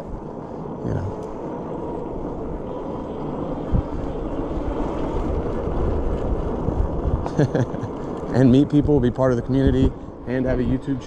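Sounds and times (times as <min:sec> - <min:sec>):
electric bike riding rumble: 0:00.0 - 0:11.0
wind on microphone: 0:00.0 - 0:11.0.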